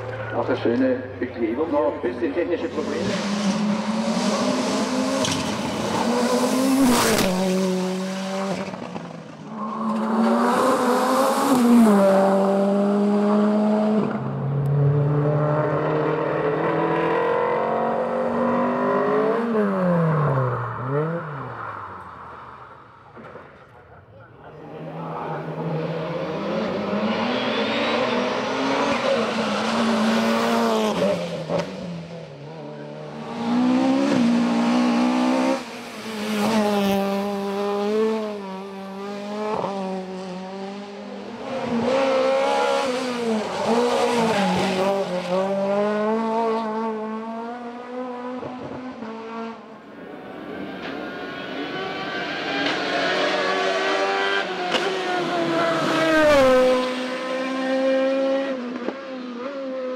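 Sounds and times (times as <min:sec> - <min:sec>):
race car engines revving past: 0:00.0 - 0:23.7, 0:24.4 - 0:59.9.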